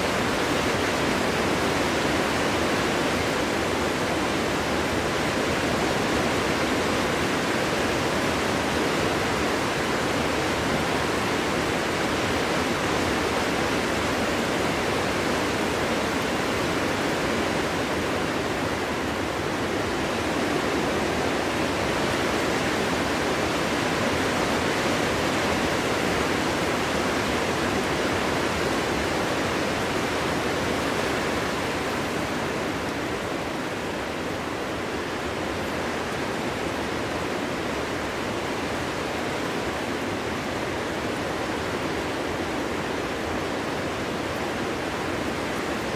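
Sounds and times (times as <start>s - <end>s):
wind blowing steadily: 0.0s - 45.9s.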